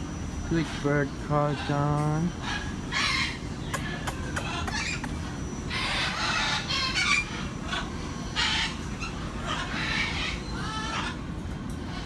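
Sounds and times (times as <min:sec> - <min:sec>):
cockatoo squawking: 0:00.6 - 0:11.2.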